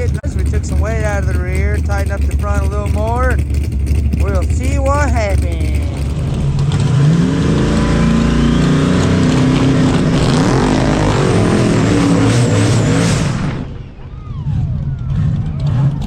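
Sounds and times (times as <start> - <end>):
race car engine at full throttle: 0.0 - 16.0.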